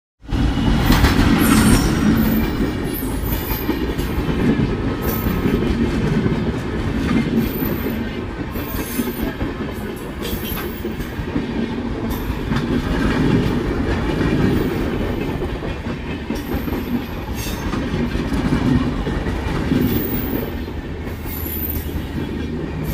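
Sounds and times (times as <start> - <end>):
train wheels rumbling on rails: 0.2 - 22.9.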